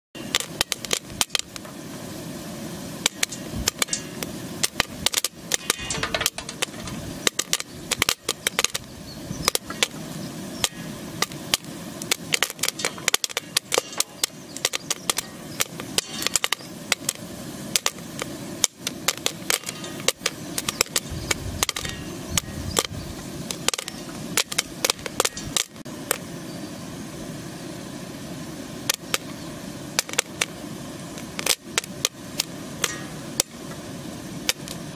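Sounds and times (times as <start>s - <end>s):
popcorn popping in a pan: 0.2s - 26.4s, 28.2s - 34.9s
steady hiss: 0.2s - 34.9s.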